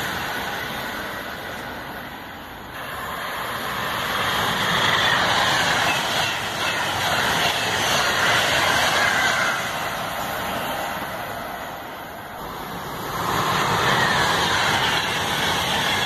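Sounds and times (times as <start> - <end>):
trains rushing past: 0.0 - 16.0.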